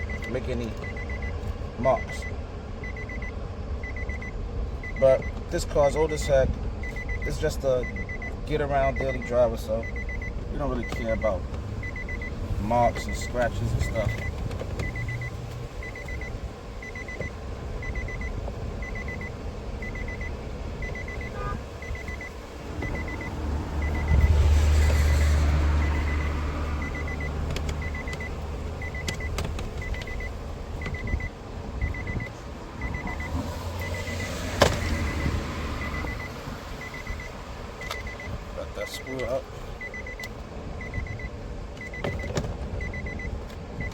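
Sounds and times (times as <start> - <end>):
car warning chime beeping: 0.0 - 43.9
low vehicle rumble: 0.0 - 43.9.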